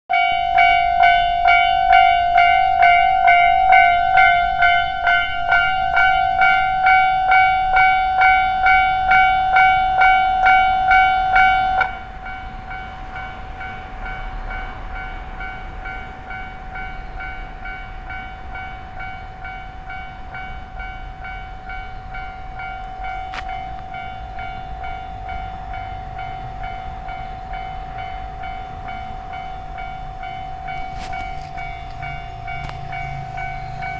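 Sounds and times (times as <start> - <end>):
level crossing warning bell: 0.1 - 33.9.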